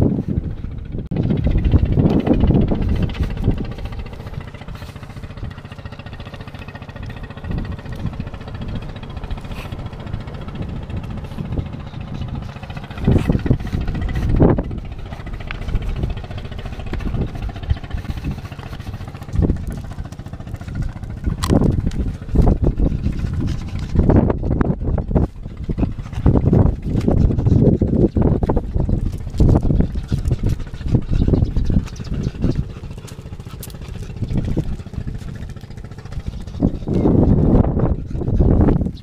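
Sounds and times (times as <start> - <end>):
boat engine running: 0.0 - 39.0
wind buffeting microphone: 0.0 - 39.0.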